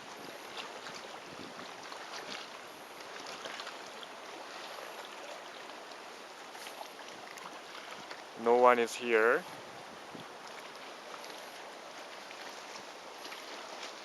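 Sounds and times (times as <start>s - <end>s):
waves lapping on rocky shore: 0.0s - 14.0s.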